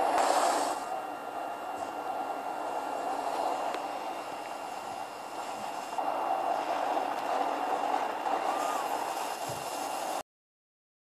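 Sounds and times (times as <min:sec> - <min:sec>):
steady rushing noise: 0:00.0 - 0:10.2.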